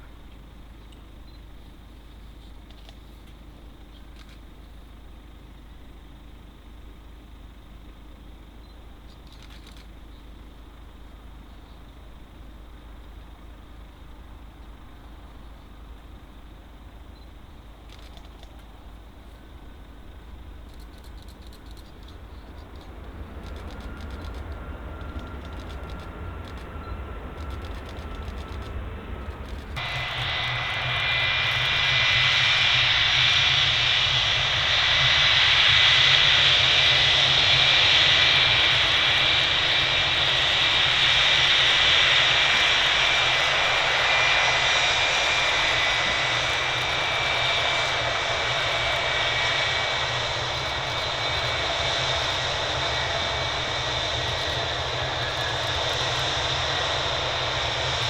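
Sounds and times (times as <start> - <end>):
jet engines rushing with whine: 0.0 - 58.0.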